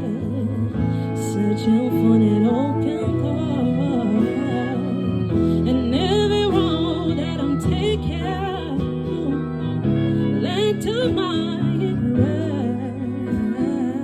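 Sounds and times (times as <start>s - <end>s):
person singing with vibrato: 0.0s - 14.0s.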